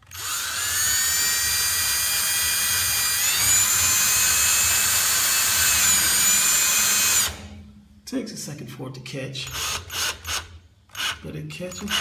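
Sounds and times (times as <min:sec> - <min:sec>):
power drill driving screw: 0:00.0 - 0:07.5, 0:09.5 - 0:12.0.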